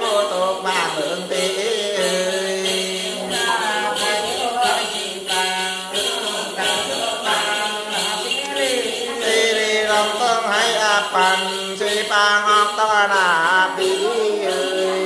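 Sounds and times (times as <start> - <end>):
man chanting: 0.0 - 15.0
sharp beat: 0.0 - 15.0.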